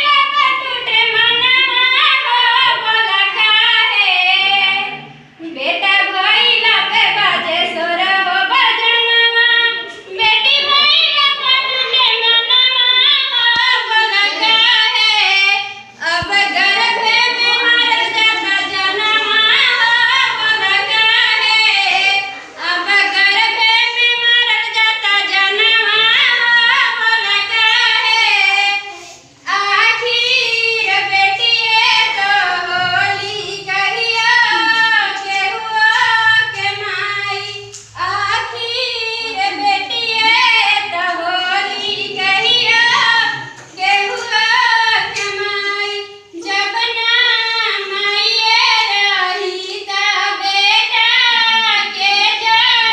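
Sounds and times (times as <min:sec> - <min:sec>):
girl singing: 0:00.0 - 0:52.9.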